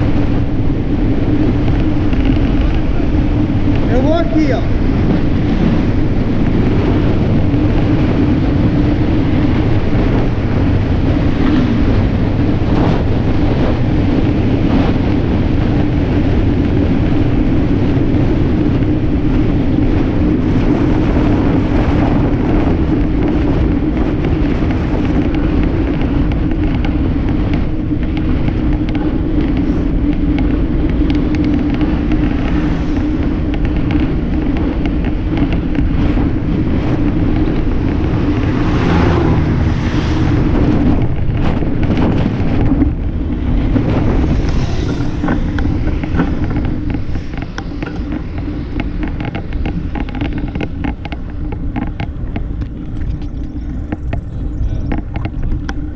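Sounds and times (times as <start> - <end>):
tyres humming on asphalt: 0.0 - 55.9
wind rushing over microphone: 0.0 - 55.9.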